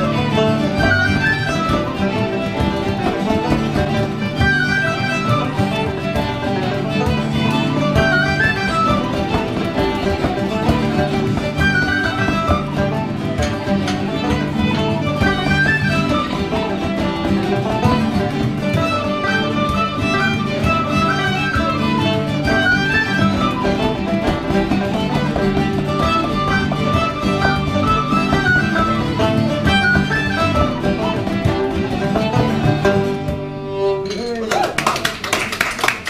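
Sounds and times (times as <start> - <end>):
frame drums: 0.0 - 34.2
acoustic guitars strumming: 0.0 - 34.3
banjo: 0.0 - 34.5.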